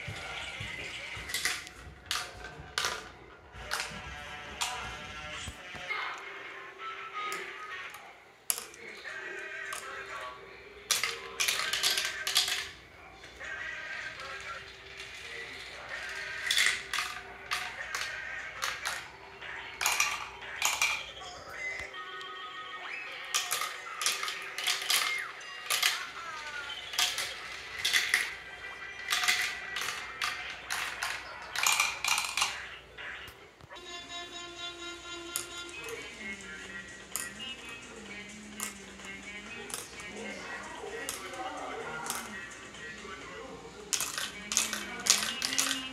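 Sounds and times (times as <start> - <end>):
marbles rattling along plastic tracks: 0.0 - 5.8, 7.3 - 21.9, 22.9 - 32.7, 34.9 - 45.9
background music: 0.0 - 45.9.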